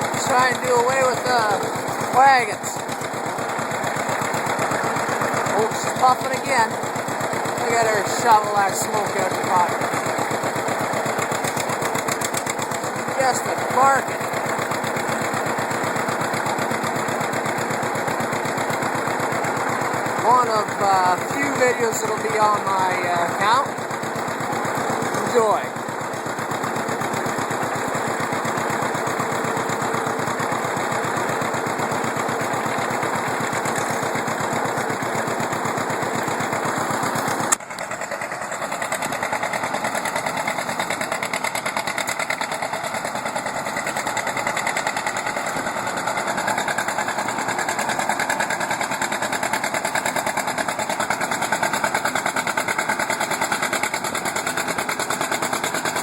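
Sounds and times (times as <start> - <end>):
second tractor engine running: 0.0 - 56.0
tractor engine running: 0.0 - 56.0.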